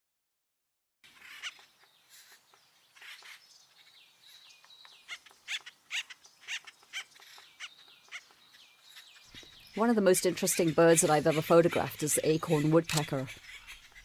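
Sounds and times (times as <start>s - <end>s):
woodpeckers calling: 1.0s - 14.0s.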